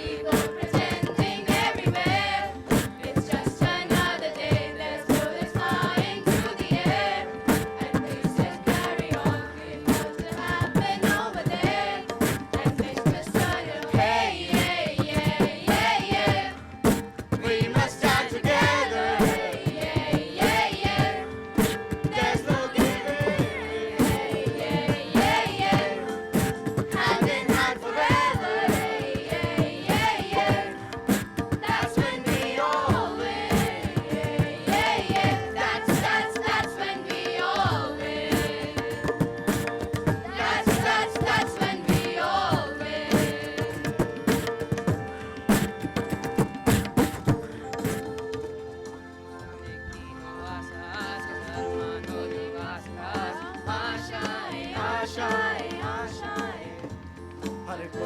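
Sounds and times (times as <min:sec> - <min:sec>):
driving percussion beat: 0:00.0 - 0:48.8.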